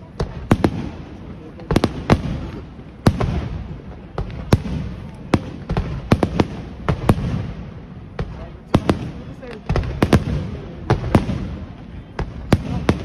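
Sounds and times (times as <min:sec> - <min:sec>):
fireworks bangs echoing: 0:00.0 - 0:13.0.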